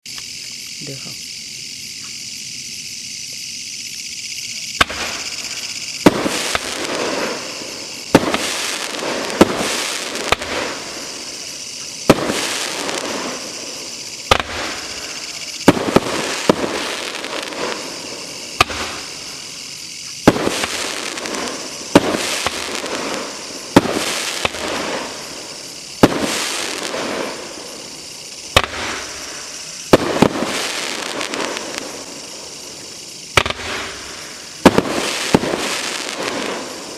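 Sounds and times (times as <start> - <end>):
firework crackle: 0.0 - 36.9
firework reports: 0.6 - 1.4, 3.8 - 36.9.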